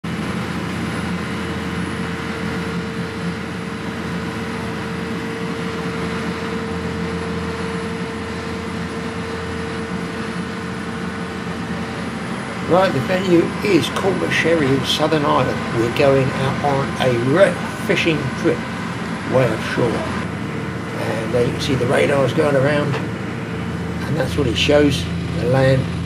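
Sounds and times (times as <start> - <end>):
boat engine running: 0.0 - 26.0
water rushing in wake: 0.1 - 26.0.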